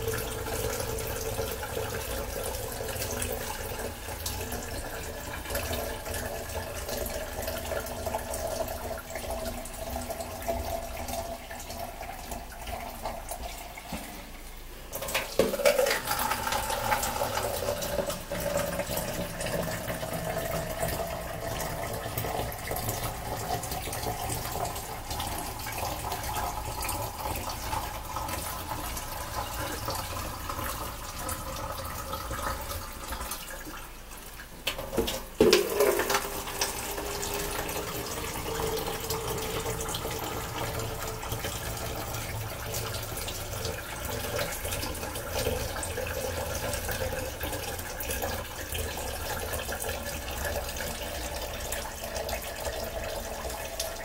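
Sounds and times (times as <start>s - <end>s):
water splashing into a metal sink: 0.0s - 54.0s.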